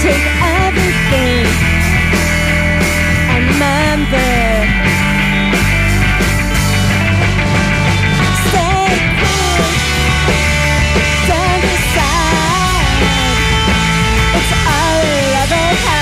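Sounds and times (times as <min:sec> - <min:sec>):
drums beating: 0:00.0 - 0:16.0
rock band playing live: 0:00.0 - 0:16.0.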